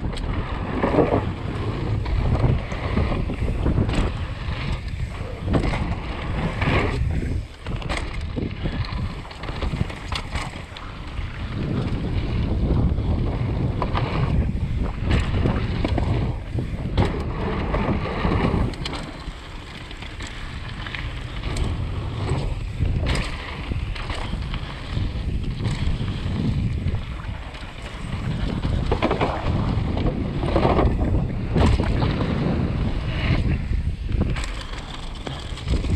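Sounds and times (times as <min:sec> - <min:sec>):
bike rattling over bumps: 0:00.0 - 0:35.9
bike tyres rumbling on dirt: 0:00.0 - 0:35.9
wind buffeting microphone: 0:00.0 - 0:35.9.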